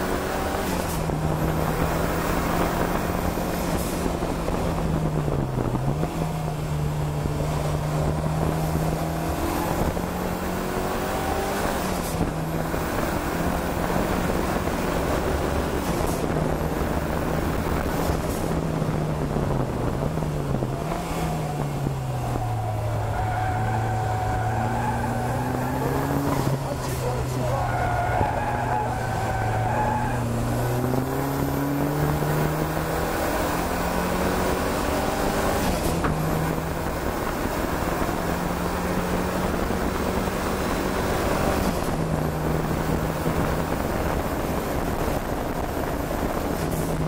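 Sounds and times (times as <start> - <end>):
car engine at high revs: 0.0 - 47.0
road noise: 0.0 - 47.0.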